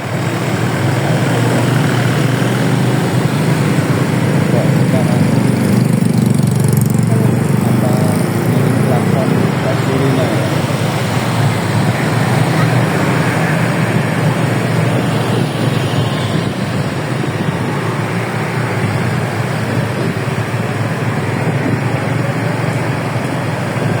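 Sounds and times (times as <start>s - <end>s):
vehicle engines and road noise: 0.0s - 24.0s.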